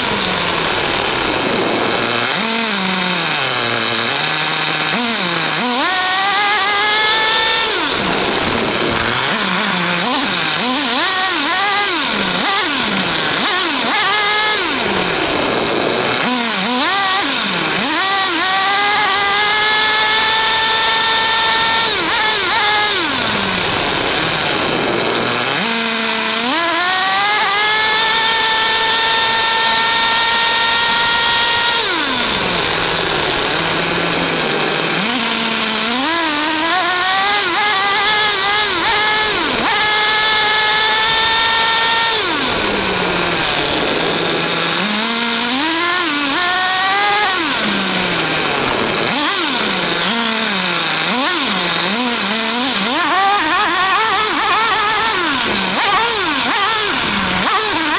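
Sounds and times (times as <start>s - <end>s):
small nitro engine revving: 0.0s - 57.9s.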